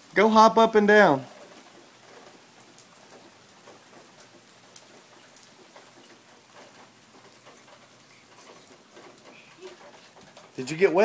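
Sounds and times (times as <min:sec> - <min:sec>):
rain falling: 0:00.0 - 0:11.0
raindrop ticks: 0:00.0 - 0:11.0.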